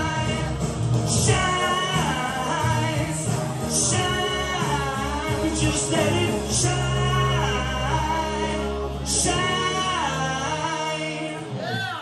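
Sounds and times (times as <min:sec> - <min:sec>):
man singing into a microphone: 0:00.0 - 0:12.0
pop backing track: 0:00.0 - 0:12.0.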